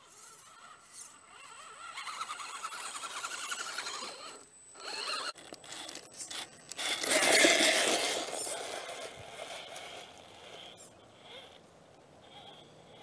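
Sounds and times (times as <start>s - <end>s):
tyres scraping over dirt and rock: 0.0s - 11.6s
electric motor and gear whine: 0.0s - 13.0s.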